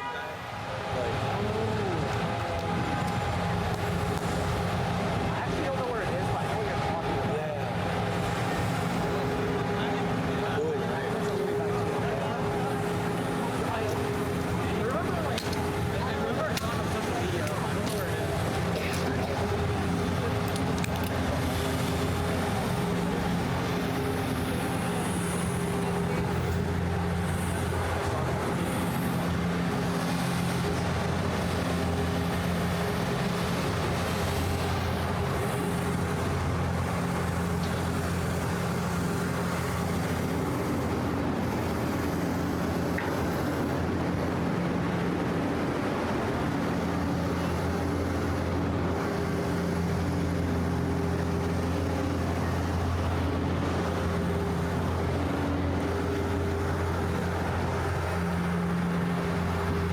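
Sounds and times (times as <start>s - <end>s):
low engine hum: 0.0s - 59.9s
street traffic noise: 0.0s - 59.9s.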